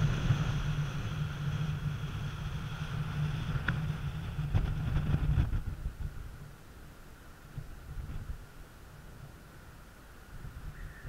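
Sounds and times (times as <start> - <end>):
wind buffeting microphone: 0.0 - 6.6, 7.4 - 9.6, 10.2 - 11.0
faint steady hum: 0.0 - 11.0.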